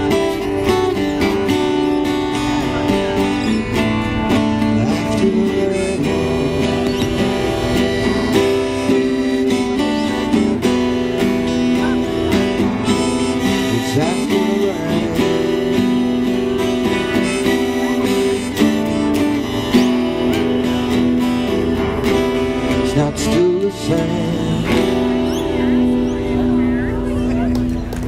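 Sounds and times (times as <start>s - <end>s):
acoustic guitars strumming: 0.0s - 28.0s.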